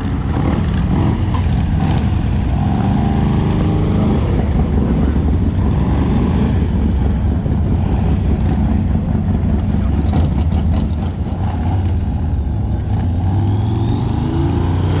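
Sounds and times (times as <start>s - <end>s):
motorcycle engine revving hard: 0.0s - 12.0s, 12.8s - 15.0s
motorcycle engines running: 0.0s - 15.0s.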